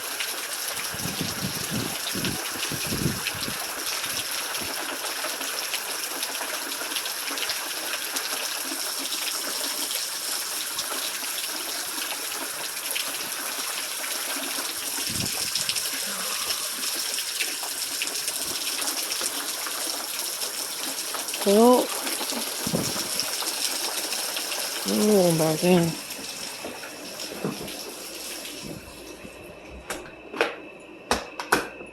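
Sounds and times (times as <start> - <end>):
steady rain falling: 0.0 - 28.7
water running and splashing: 0.0 - 29.3.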